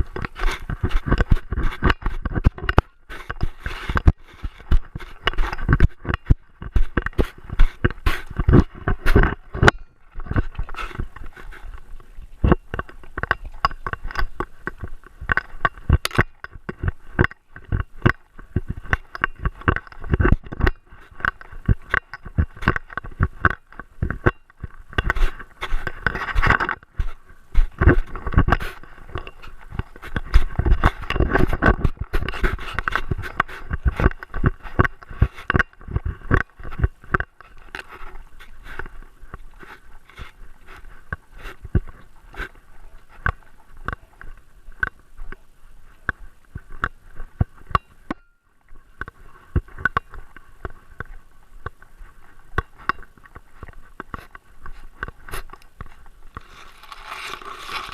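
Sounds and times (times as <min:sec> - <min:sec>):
camera scraping and rubbing: 0:00.0 - 0:42.6, 0:53.6 - 0:57.9.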